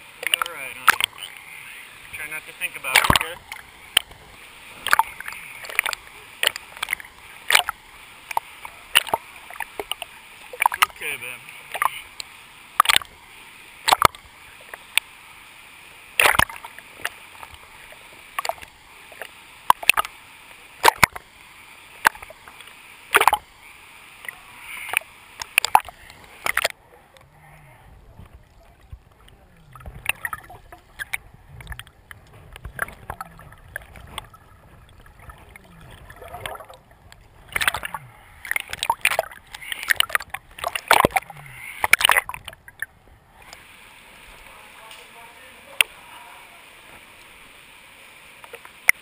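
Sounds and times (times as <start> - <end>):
water sloshing against camera: 0.0 - 15.2, 16.1 - 45.1
underwater bubbling: 0.0 - 44.8
water splashes: 0.0 - 49.0.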